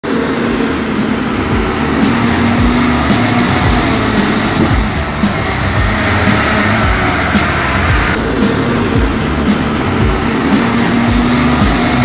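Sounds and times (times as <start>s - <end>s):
loud road traffic: 0.0s - 12.0s
vehicle engine running: 0.0s - 12.0s.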